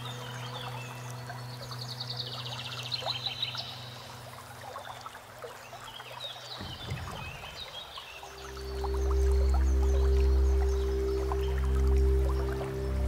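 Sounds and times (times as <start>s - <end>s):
birds chirping: 0.0s - 13.0s
running water: 0.0s - 13.0s
soft music with low tone: 0.0s - 13.0s.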